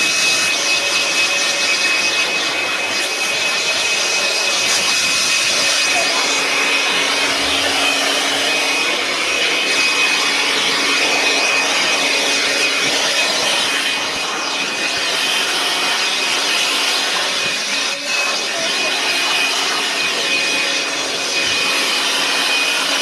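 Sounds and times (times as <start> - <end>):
leaf blower running: 0.0 - 23.0.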